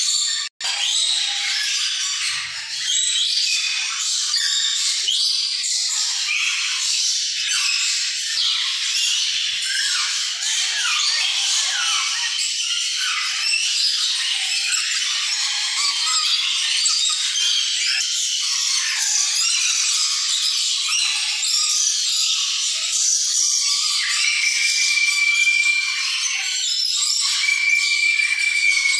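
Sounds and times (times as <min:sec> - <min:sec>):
birds chirping and chattering: 0:00.0 - 0:28.9.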